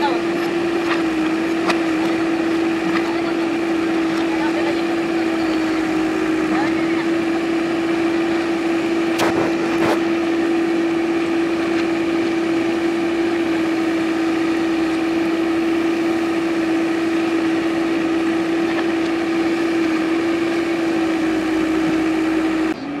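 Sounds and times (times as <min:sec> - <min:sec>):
diesel engine whining: 0:00.0 - 0:23.0.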